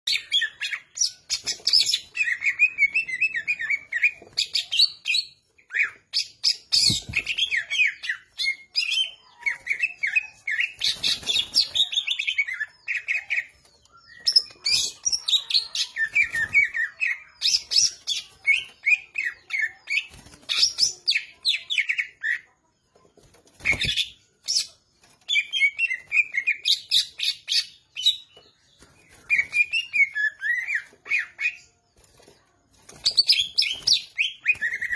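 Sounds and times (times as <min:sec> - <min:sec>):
bird singing chattering and warbling: 0:00.0 - 0:34.9.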